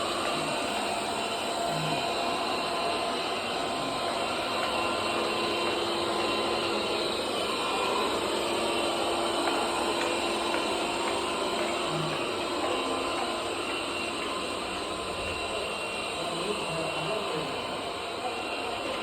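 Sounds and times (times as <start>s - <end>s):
robot vacuum running: 0.0s - 19.0s.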